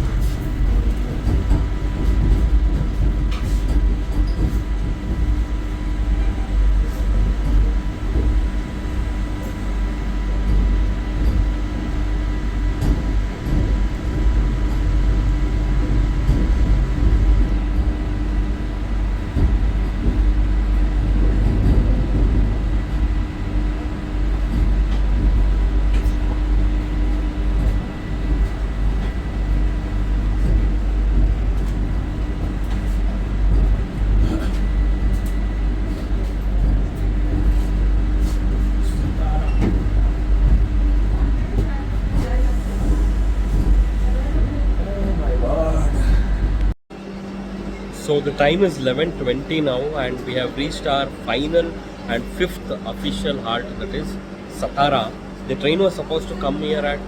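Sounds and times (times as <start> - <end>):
electric train rumble: 0.0 - 57.0.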